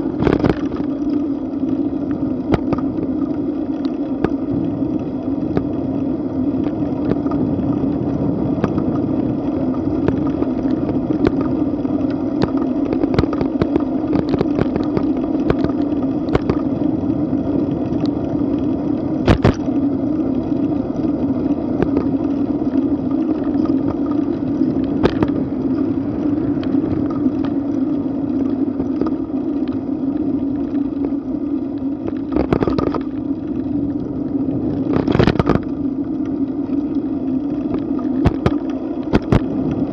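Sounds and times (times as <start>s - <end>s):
bicycle ride rumble: 0.0s - 39.9s.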